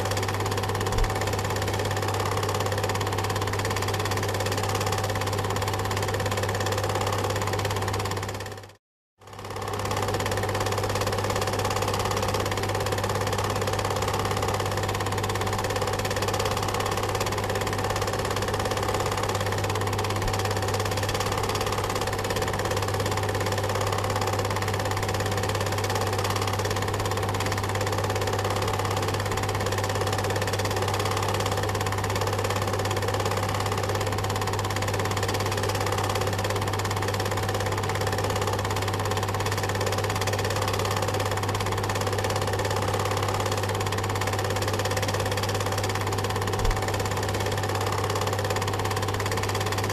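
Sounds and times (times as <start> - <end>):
film projector motor hum: 0.0 - 49.9.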